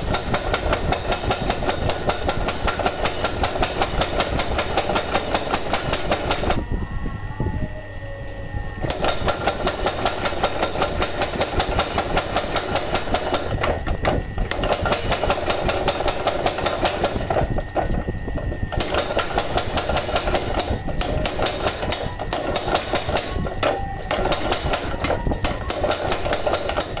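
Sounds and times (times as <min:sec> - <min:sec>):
power hammer striking: 0:00.0 - 0:06.6, 0:08.8 - 0:27.0.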